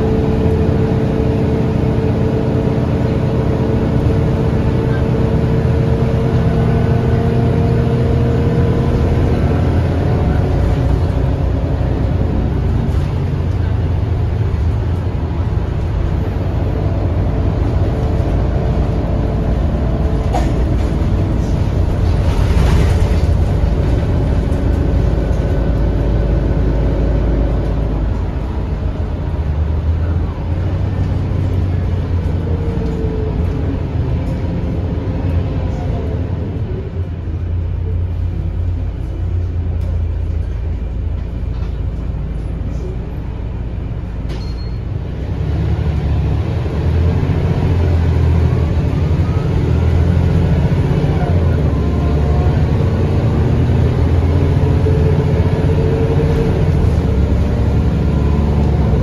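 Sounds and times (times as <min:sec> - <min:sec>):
bus diesel engine rumble: 0:00.0 - 0:59.0.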